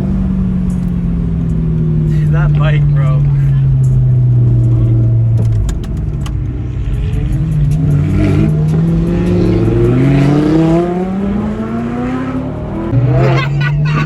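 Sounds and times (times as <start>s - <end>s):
engine accelerating through gears: 0.0s - 14.0s.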